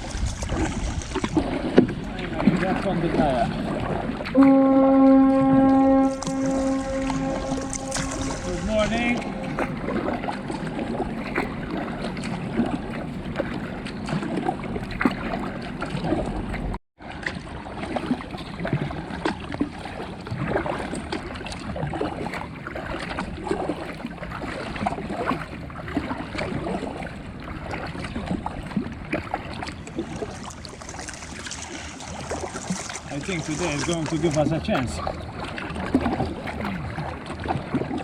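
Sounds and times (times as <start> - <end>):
water lapping against a kayak hull: 0.0 - 38.0.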